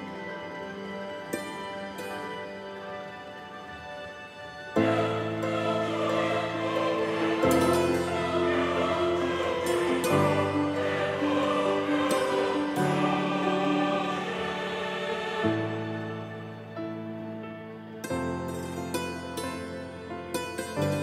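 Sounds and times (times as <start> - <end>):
choral background music: 0.0 - 21.0.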